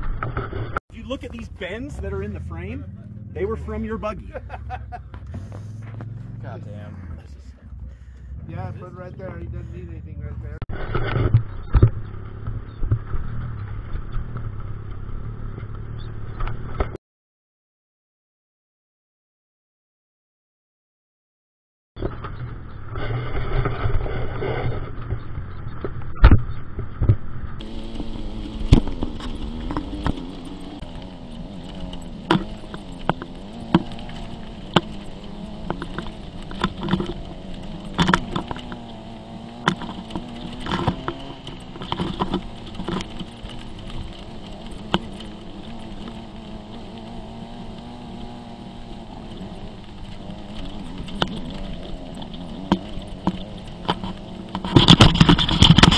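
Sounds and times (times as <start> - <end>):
dune buggy engine running: 0.0 - 17.0, 22.0 - 55.9.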